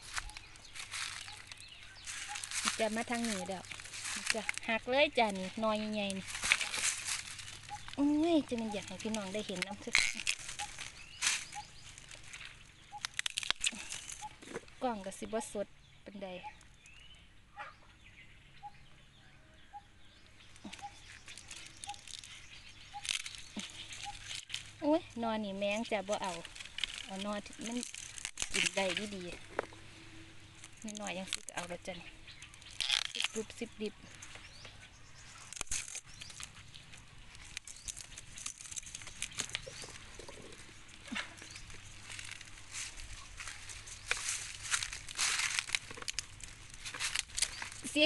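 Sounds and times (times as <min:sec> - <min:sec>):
twigs snapping: 0:00.0 - 0:15.3, 0:20.4 - 0:48.0
bamboo leaves crackling and rustling: 0:00.0 - 0:15.6, 0:20.4 - 0:48.0.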